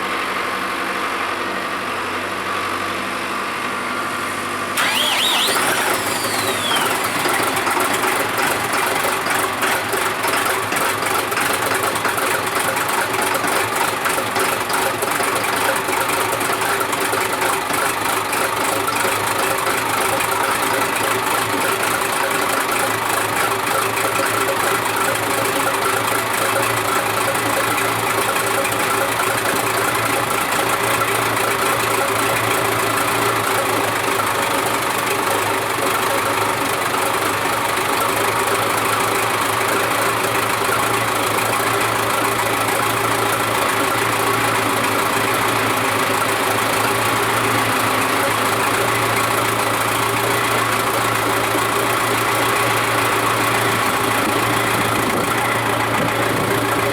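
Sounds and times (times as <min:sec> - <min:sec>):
tractor diesel engine idling: 0:00.0 - 0:56.9.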